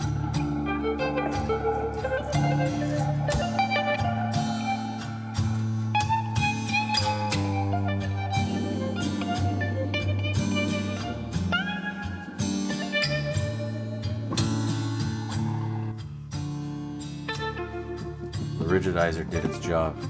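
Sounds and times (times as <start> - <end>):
blues slide guitar instrumental: 0.0 - 20.0.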